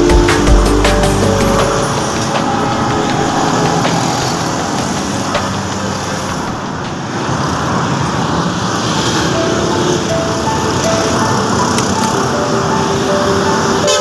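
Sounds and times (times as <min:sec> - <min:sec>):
vehicle engine and tyre noise: 0:00.4 - 0:13.9.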